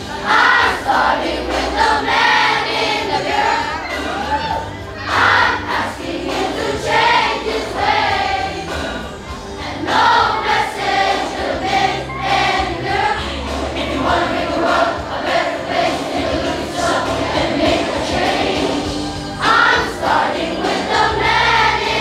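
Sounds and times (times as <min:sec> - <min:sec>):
choir singing: 0:00.0 - 0:04.4, 0:05.0 - 0:22.0.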